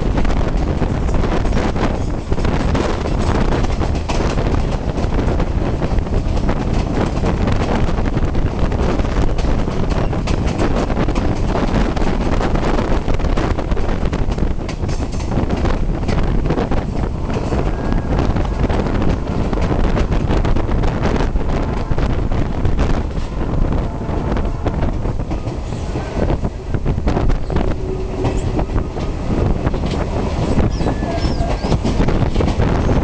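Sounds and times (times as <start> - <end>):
train cars rumbling on track: 0.0 - 33.0
wheels and couplings clacking: 0.0 - 33.0.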